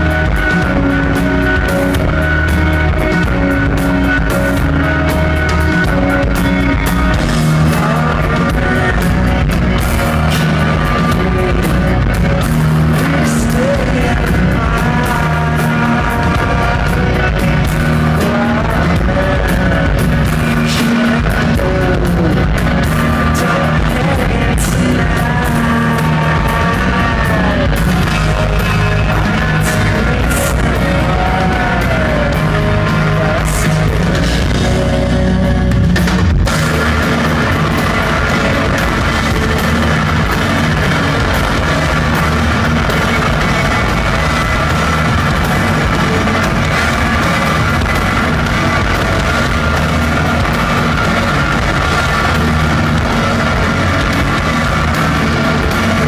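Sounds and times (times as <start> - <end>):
live rock band: 0.0 - 56.0
person singing: 0.0 - 56.0.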